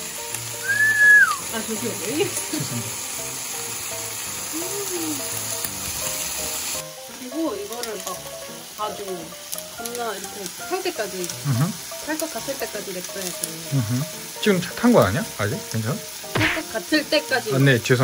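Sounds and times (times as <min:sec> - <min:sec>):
chicken sizzling in pan: 0:00.0 - 0:18.0.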